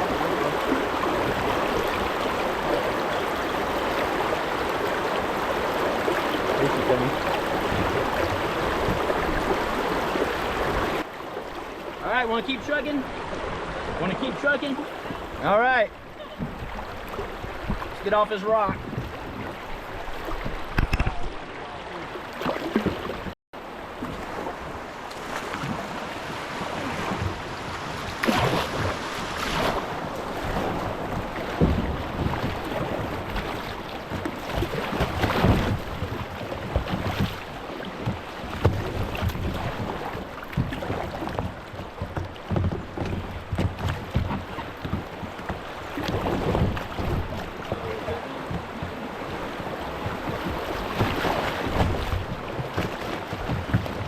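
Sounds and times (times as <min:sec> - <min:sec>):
flowing creek water: 0:00.0 - 0:54.0
paddle splashing in water: 0:00.0 - 0:54.0.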